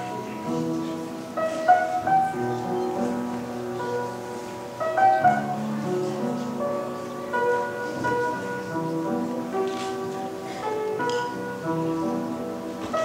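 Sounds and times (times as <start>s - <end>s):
upright piano playing chords: 0.0s - 13.0s.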